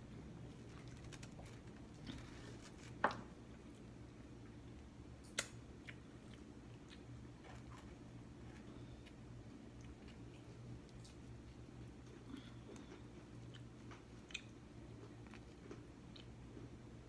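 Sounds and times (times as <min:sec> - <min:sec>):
low room hum: 0:00.0 - 0:17.0
quiet chewing: 0:00.0 - 0:17.0.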